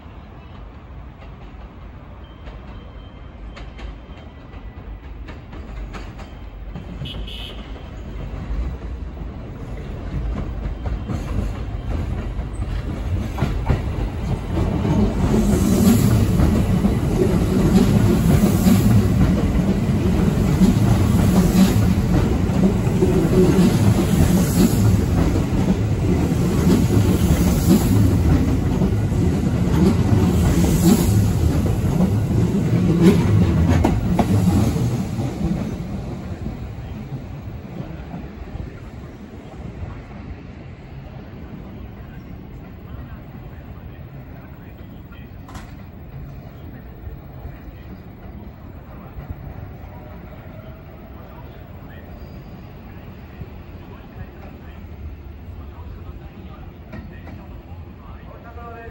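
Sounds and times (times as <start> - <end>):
electric train passing: 0.0 - 58.9.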